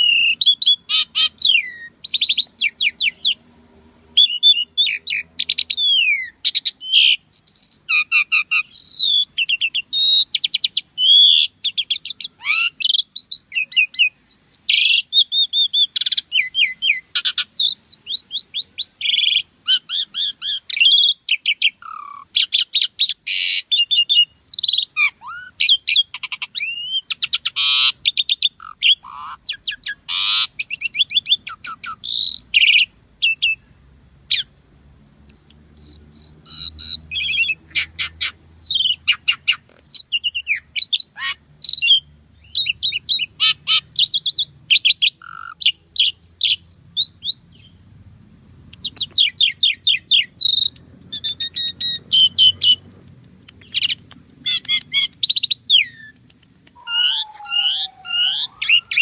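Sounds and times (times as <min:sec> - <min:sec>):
starling singing: 0:00.0 - 0:33.7, 0:35.4 - 0:47.8, 0:48.8 - 0:59.0.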